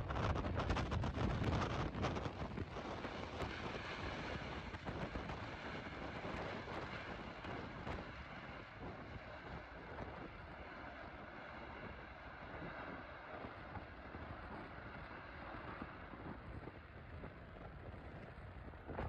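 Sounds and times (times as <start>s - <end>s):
jet engines rolling on runway: 0.0s - 19.0s
wind buffeting microphone: 0.0s - 19.0s.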